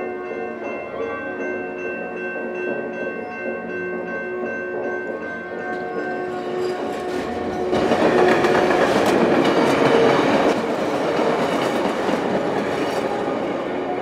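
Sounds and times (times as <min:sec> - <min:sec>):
train rumbling with wheel clatter: 0:00.4 - 0:14.0.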